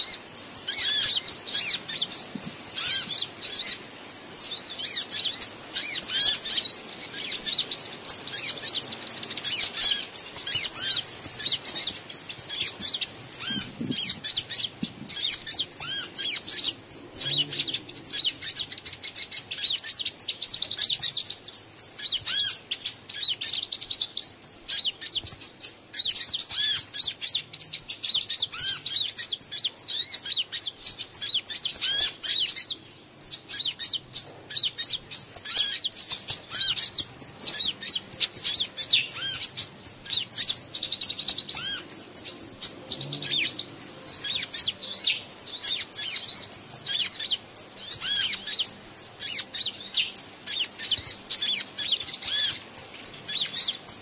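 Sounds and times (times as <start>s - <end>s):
birds chirping rapidly: 0.0s - 54.0s.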